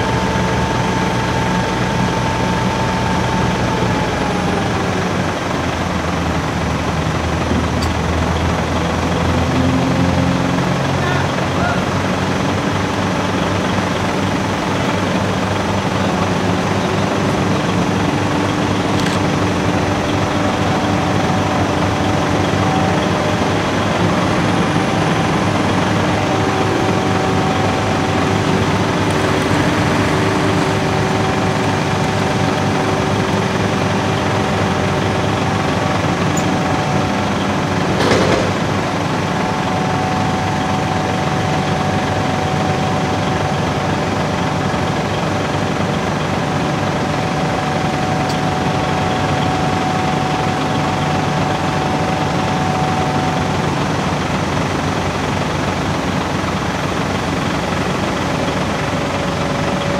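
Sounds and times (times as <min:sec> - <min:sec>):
crane diesel engine running: 0:00.0 - 0:59.9
steady whining tones: 0:00.0 - 0:59.9.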